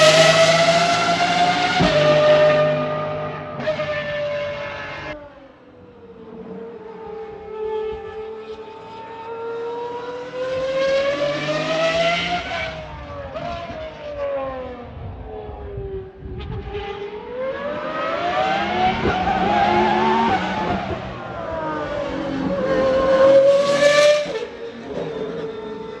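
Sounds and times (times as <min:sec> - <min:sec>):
car engine accelerating hard: 0:00.0 - 0:05.2, 0:07.4 - 0:14.7, 0:17.1 - 0:26.0.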